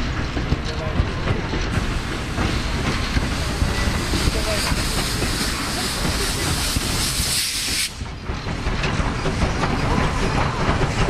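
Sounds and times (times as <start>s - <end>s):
train rumbling on rails: 0.0s - 11.0s
steam locomotive hissing: 1.6s - 11.0s.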